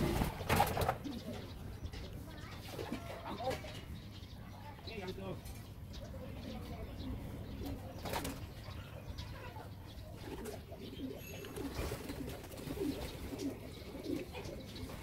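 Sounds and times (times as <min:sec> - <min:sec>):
pigeons cooing: 0:00.0 - 0:04.3, 0:05.9 - 0:15.0.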